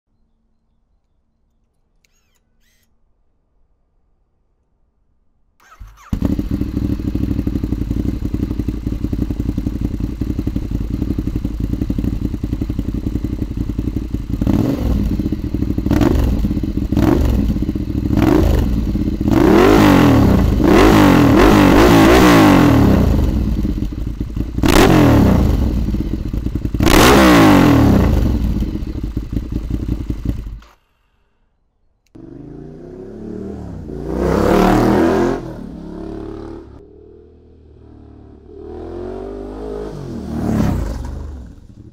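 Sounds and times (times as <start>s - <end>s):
motorcycle engine idling and revving: 5.6s - 30.8s, 32.1s - 41.9s.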